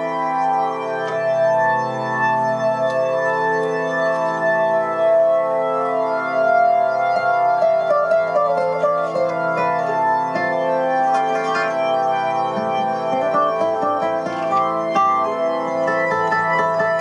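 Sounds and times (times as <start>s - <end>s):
organ-toned keyboard music: 0.0s - 17.0s.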